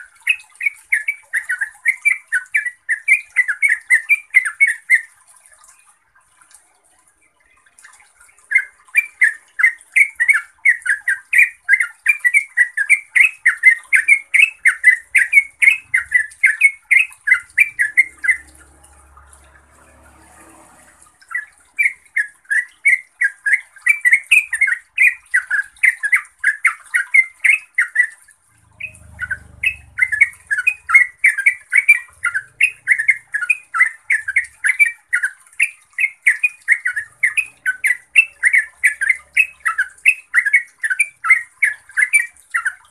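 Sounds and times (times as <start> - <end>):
bird chattering song: 0.0 - 5.2, 8.4 - 20.0, 21.2 - 28.2, 28.8 - 42.9.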